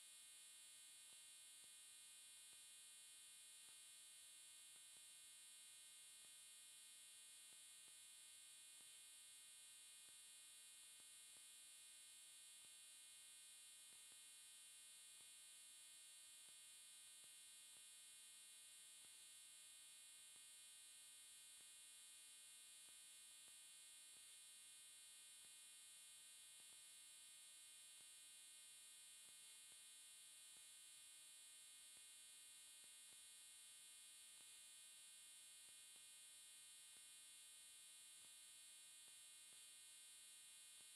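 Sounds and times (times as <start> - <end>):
faint steady hiss and hum: 0.0 - 40.9.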